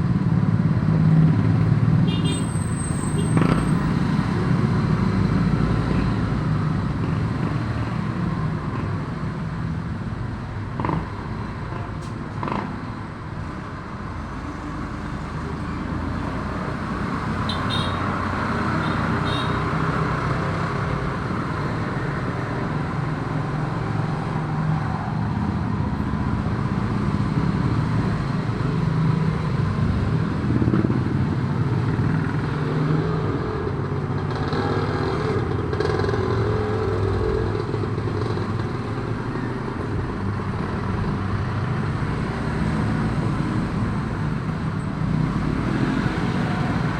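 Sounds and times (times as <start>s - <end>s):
road traffic rumble: 0.0s - 46.9s.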